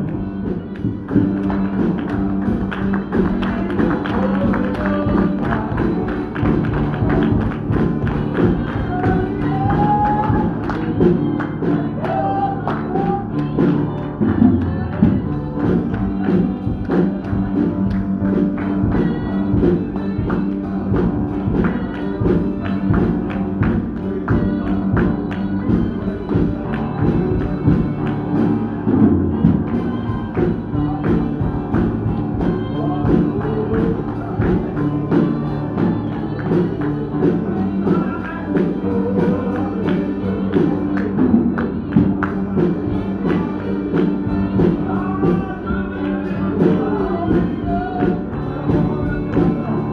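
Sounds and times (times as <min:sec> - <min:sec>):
gospel music with steady beat: 0:00.0 - 0:49.9
voices singing: 0:00.0 - 0:49.9.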